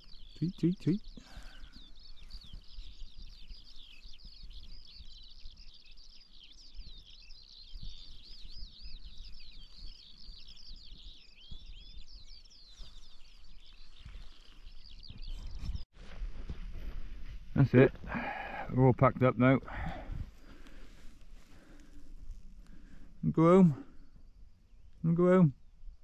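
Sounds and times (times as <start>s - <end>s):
songbirds singing: 0.0s - 15.9s, 17.0s - 26.0s.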